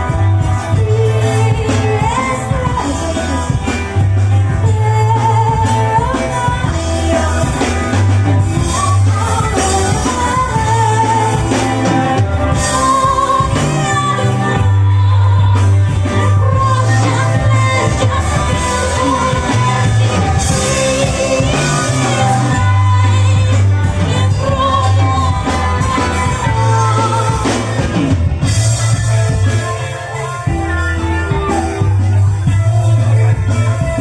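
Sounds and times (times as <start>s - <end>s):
guitars: 0.0s - 34.0s
heavy bass line: 0.0s - 34.0s
person singing: 0.0s - 34.0s.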